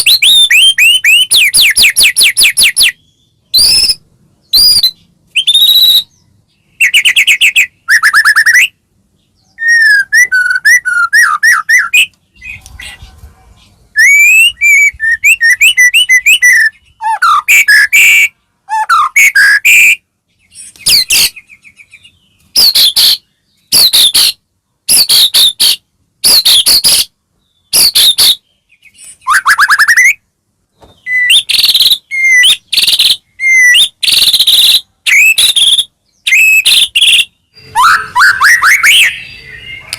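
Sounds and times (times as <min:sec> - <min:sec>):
bird singing whistles and trills: 0:00.0 - 0:08.8, 0:09.4 - 0:13.2, 0:13.9 - 0:30.2, 0:30.8 - 0:39.9.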